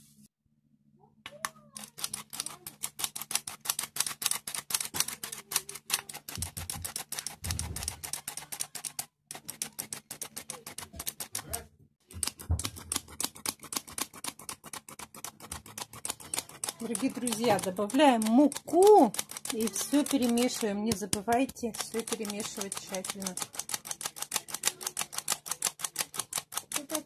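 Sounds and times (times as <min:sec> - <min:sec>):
flour sifter clicking rapidly: 0:01.3 - 0:27.0.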